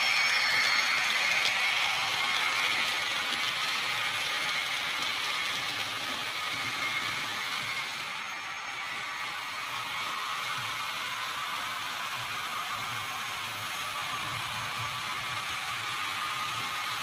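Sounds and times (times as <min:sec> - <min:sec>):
model train wheels rattling: 0:00.0 - 0:13.9
model train motor whir: 0:00.0 - 0:17.0.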